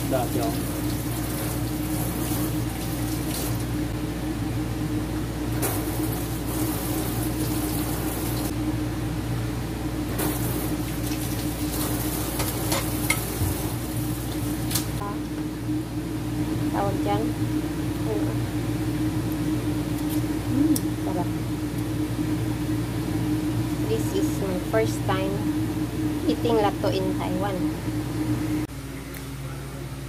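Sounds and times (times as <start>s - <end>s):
appliance motor hum: 0.0s - 30.0s.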